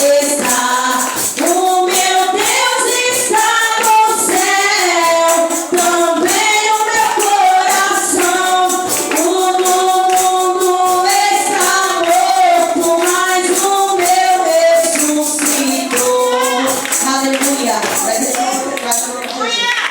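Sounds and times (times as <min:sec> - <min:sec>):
tambourine jingling: 0:00.0 - 0:19.3
voices singing worship chorus: 0:00.0 - 0:19.5.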